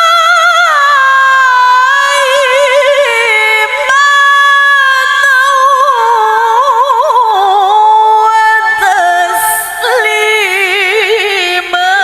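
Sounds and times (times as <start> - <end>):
woman reciting melodically: 0.0 - 12.0.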